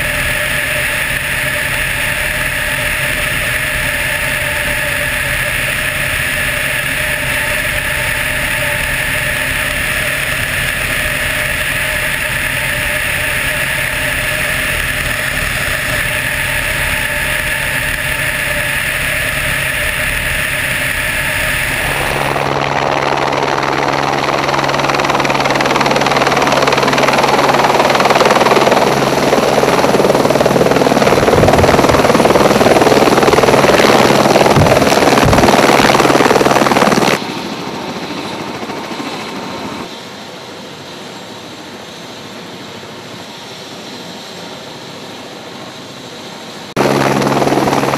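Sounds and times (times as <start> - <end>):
helicopter idling on the ground: 0.0 - 47.9
helicopter in flight from on board: 0.0 - 47.9.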